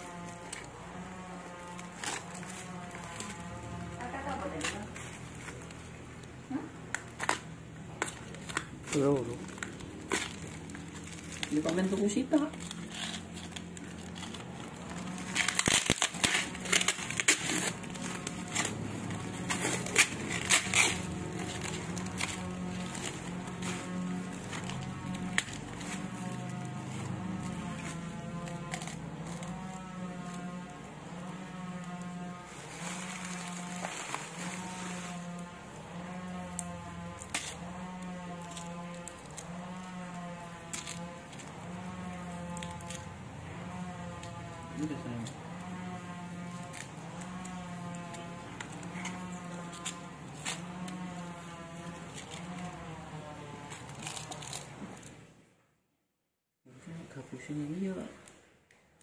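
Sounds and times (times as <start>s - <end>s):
cardboard and tape tearing: 0.0s - 55.3s
droning tone: 0.0s - 55.3s.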